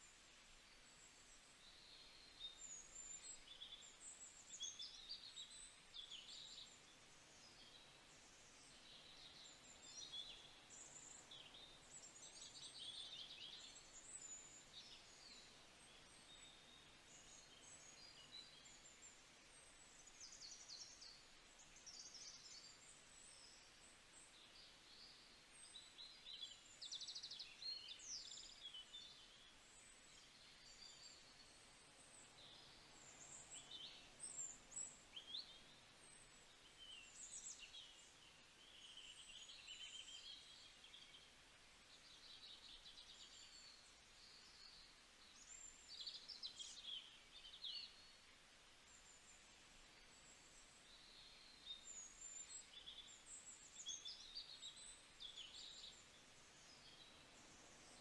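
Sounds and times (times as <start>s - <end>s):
low steady hiss: 0.0s - 58.0s
songbirds chirping and trilling: 0.0s - 58.0s.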